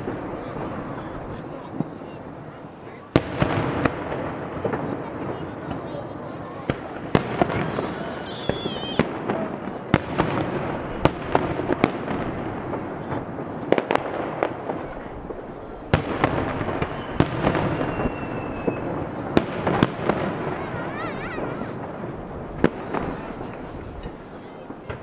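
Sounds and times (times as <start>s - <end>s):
firework bangs: 0.0s - 25.0s
firework rumble and crackle: 0.0s - 25.0s.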